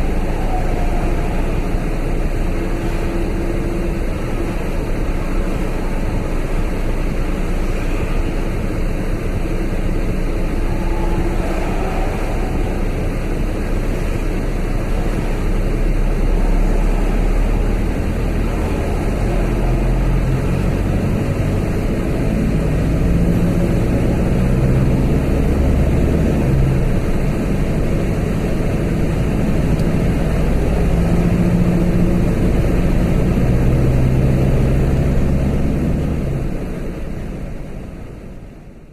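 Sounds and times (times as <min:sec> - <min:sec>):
engine hum: 0:00.0 - 0:38.9
low humming tones: 0:00.0 - 0:38.9
road and tyre rumble: 0:00.0 - 0:38.9.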